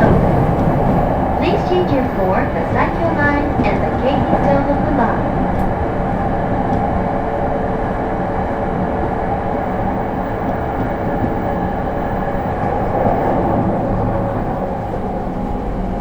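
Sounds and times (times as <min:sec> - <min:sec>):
steady train hum: 0:00.0 - 0:16.0
train wheels rumbling on rail: 0:00.0 - 0:16.0.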